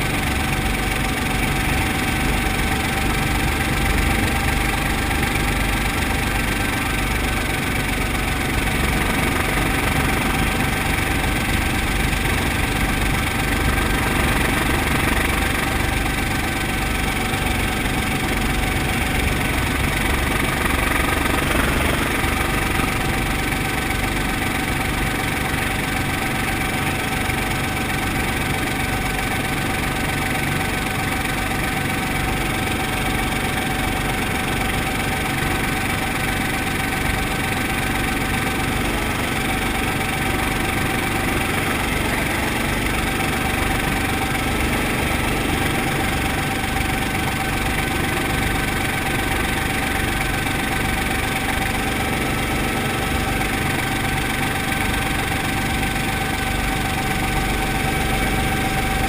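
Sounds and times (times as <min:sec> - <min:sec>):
constant whine: 0:00.0 - 0:59.0
helicopter engine and rotors: 0:00.0 - 0:59.0.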